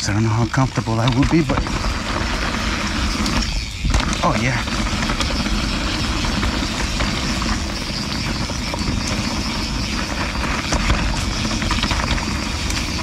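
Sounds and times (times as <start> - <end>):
bike clicks and rattles: 0.0 - 13.0
tyres rolling over dirt and rock: 0.0 - 13.0
wind buffeting microphone: 0.0 - 13.0.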